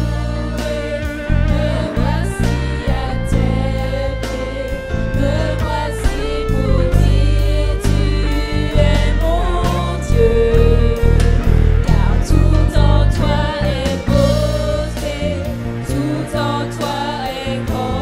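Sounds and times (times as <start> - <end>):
band with bass and beat: 0.0 - 18.0
voices singing a gospel song: 0.0 - 18.0.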